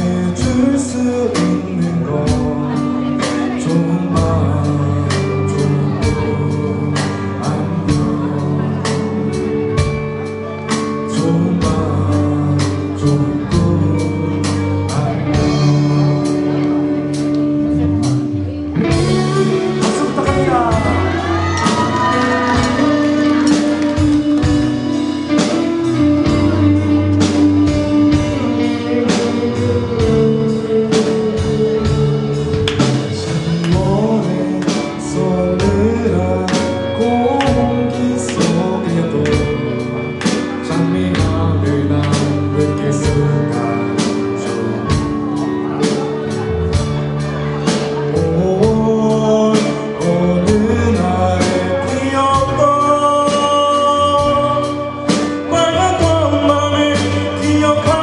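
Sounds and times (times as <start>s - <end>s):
drums beating: 0.0s - 58.0s
rock band playing: 0.0s - 58.0s.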